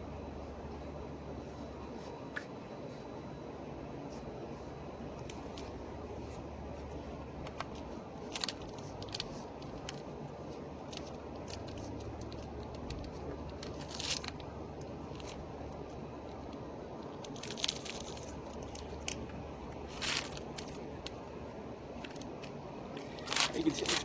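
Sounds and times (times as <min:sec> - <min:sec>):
low background noise: 0:00.0 - 0:24.0.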